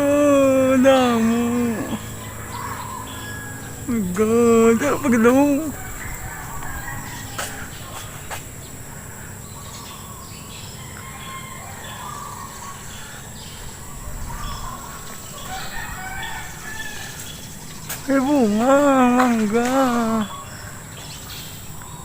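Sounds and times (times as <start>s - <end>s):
bird chirps: 0.0s - 22.0s
high-pitched insect drone: 0.0s - 22.0s.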